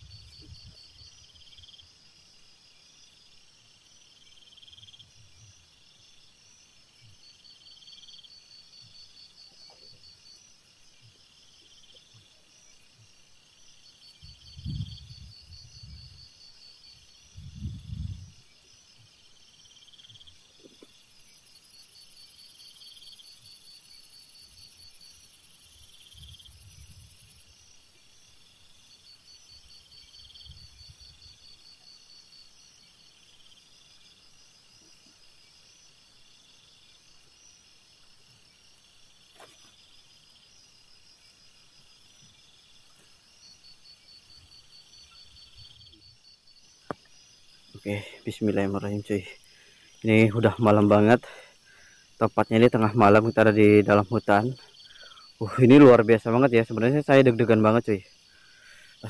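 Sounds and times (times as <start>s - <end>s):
high steady insect buzz: 0.0s - 59.0s
night insects chirping: 0.0s - 59.0s.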